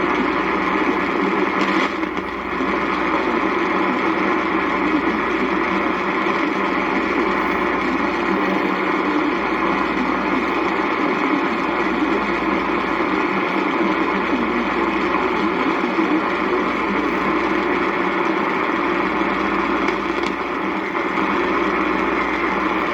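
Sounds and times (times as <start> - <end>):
faint hum: 0.0 - 22.9
radio static hiss: 0.0 - 22.9.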